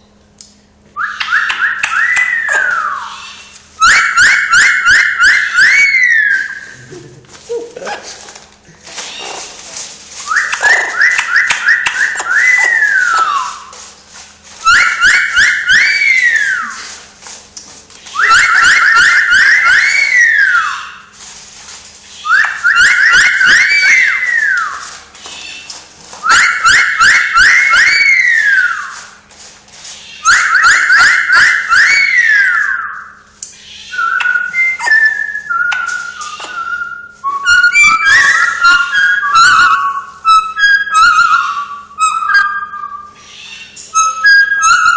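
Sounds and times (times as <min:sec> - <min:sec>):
parrot whistling: 0:01.0 - 0:06.9, 0:10.2 - 0:13.9, 0:14.5 - 0:17.1, 0:18.0 - 0:21.2, 0:22.1 - 0:29.2, 0:30.0 - 0:44.9.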